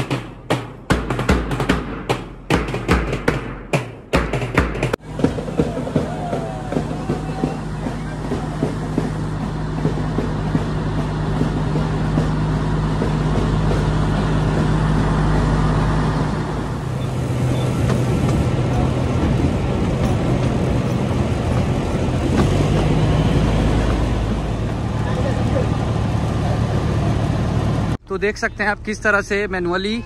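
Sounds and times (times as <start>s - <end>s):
moving train rumble: 4.8s - 30.0s
diesel locomotive engine droning: 5.0s - 30.0s.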